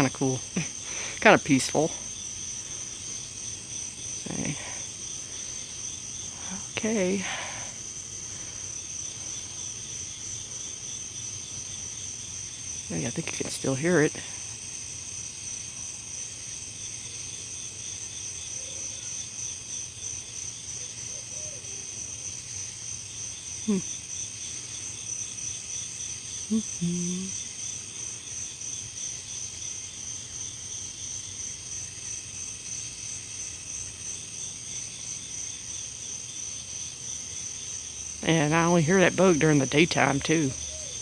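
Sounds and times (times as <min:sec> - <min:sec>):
crickets and insects trilling: 0:00.0 - 0:41.0.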